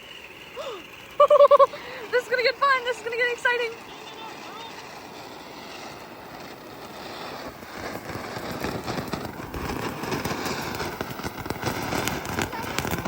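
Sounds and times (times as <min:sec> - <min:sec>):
firework crackling: 0:00.0 - 0:13.0.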